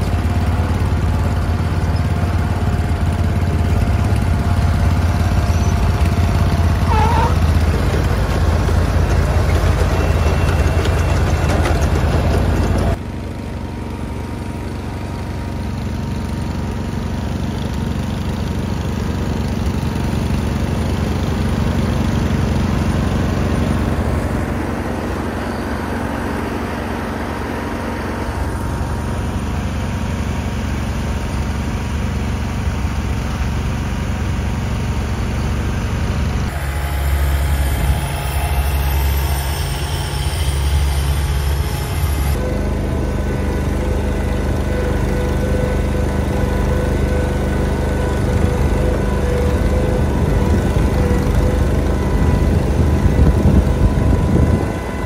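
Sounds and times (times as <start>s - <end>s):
garden tractor engine running: 0.0s - 55.0s.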